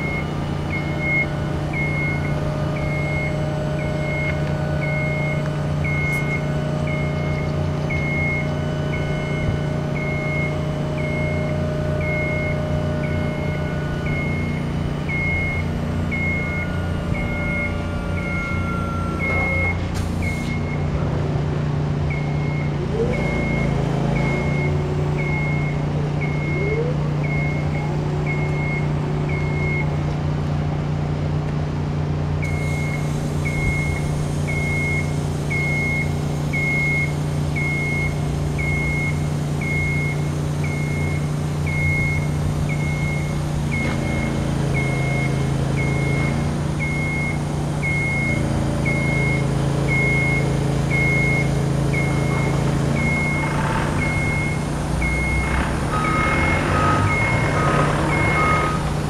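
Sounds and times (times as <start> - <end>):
scissor lift motion alarm beeping: 0.0 - 20.9, 22.1 - 29.9, 32.4 - 59.0
scissor lift low hum: 0.0 - 21.3, 22.1 - 59.0.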